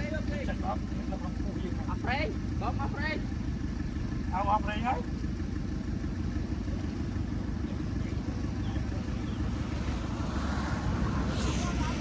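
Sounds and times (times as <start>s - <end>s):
heavy diesel machinery rumbling: 0.0s - 12.0s.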